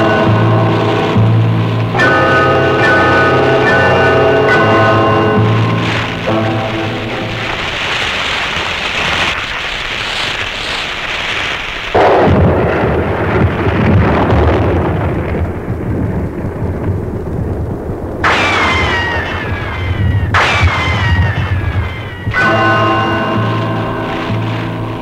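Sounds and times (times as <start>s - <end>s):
rushing rumbling hiss: 0.0s - 25.0s.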